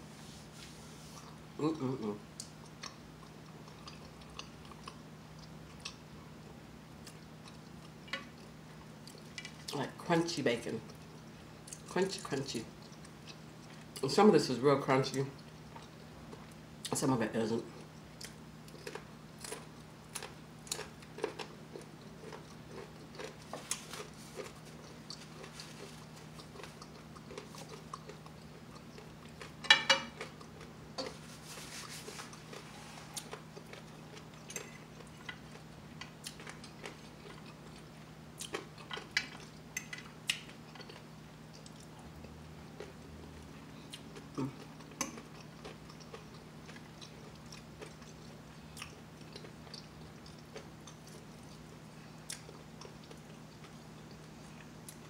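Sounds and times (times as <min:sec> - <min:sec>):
faint steady hum: 0:00.0 - 0:55.0
person chewing crunchy bacon: 0:02.3 - 0:09.9, 0:10.8 - 0:14.1, 0:15.1 - 0:17.0, 0:17.7 - 0:55.0.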